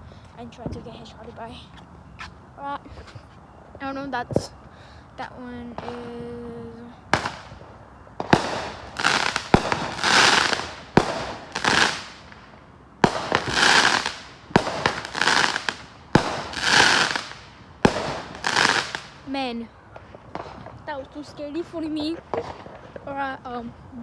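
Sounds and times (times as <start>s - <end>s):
fireworks banging and crackling: 0.2s - 23.9s.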